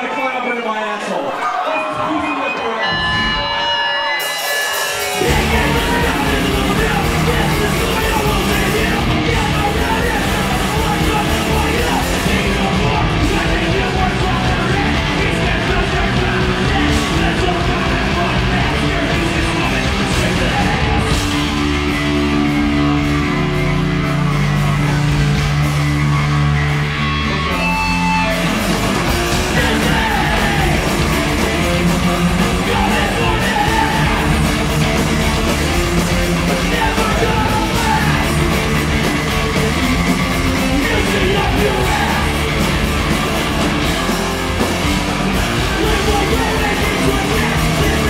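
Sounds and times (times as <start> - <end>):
heavy rock band playing: 1.3 - 48.0.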